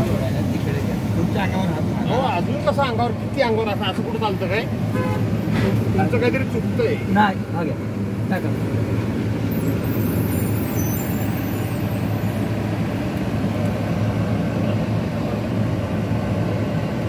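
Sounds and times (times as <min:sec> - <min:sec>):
diesel truck engine rumbling: 0:00.0 - 0:17.0.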